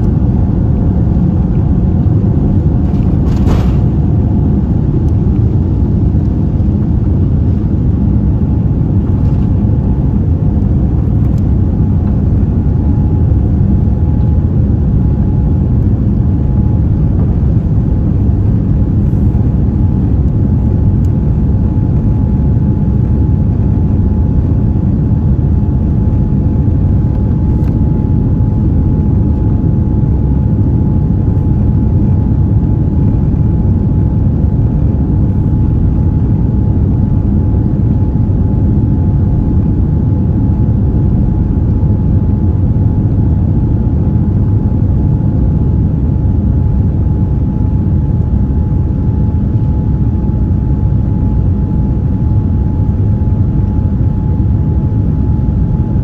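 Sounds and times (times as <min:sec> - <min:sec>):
jet engines rumbling in cabin: 0:00.0 - 0:56.0.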